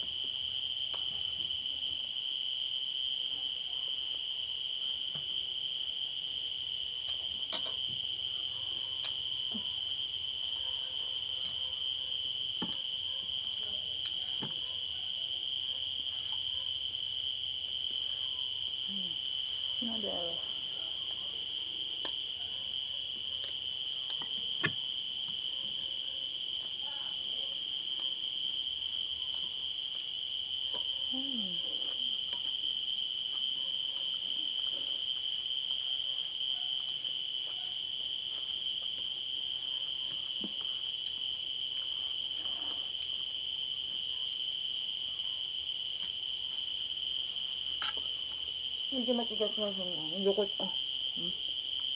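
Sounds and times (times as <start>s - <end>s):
crickets trilling: 0.0s - 51.9s.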